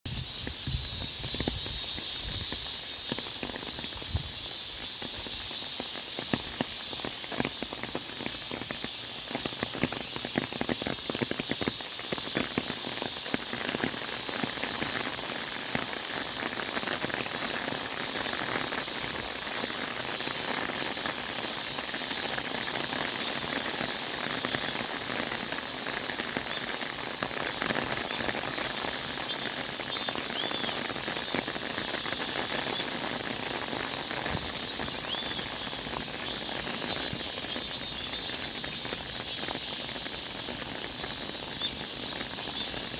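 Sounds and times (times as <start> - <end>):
cicadas buzzing: 0.1 - 42.9.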